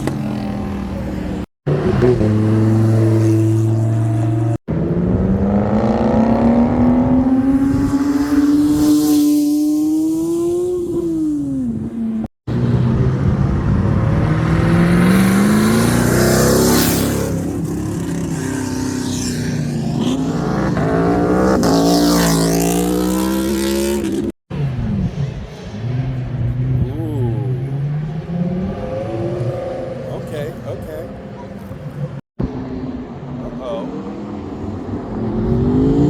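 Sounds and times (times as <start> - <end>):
car engine revving and accelerating: 0.0 - 36.0.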